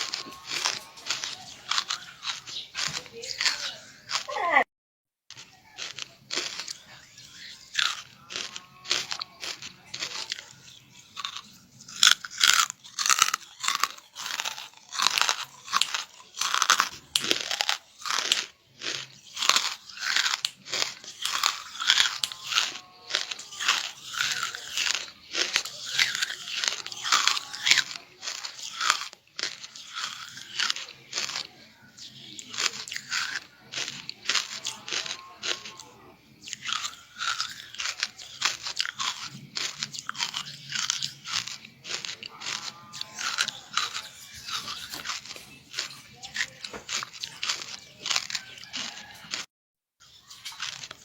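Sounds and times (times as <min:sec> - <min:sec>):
person crunching charcoal: 0:00.0 - 0:04.6, 0:05.3 - 0:51.0.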